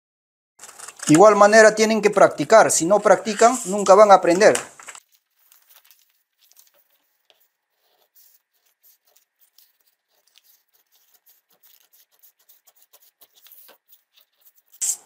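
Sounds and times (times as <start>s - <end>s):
scissors snipping paper: 0.6s - 1.9s, 2.9s - 15.0s.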